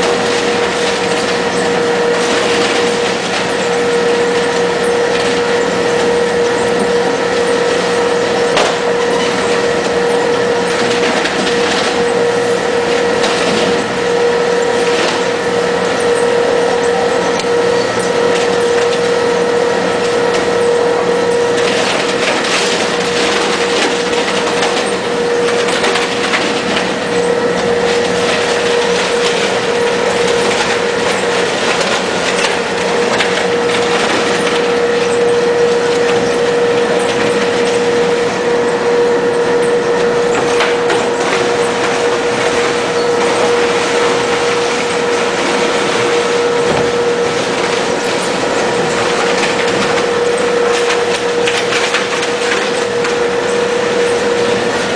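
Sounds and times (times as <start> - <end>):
recycling machine humming: 0.0 - 54.9.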